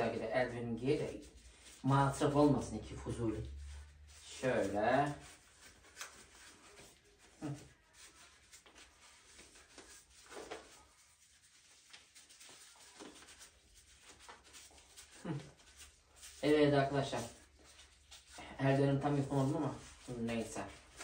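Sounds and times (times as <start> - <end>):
plastic gloves rustling: 0.0 - 21.0.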